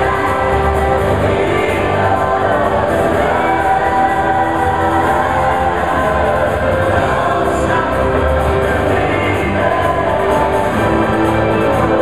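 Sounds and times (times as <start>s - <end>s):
group of people singing: 0.0s - 12.0s
live band playing: 0.0s - 12.0s.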